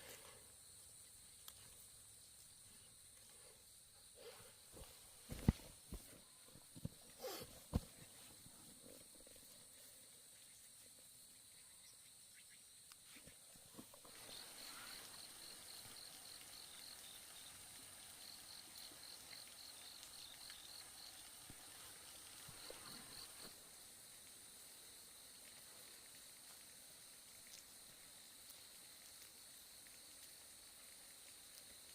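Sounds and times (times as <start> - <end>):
insect high buzz: 0.0 - 25.6
rapid high insect chirps: 0.0 - 31.9.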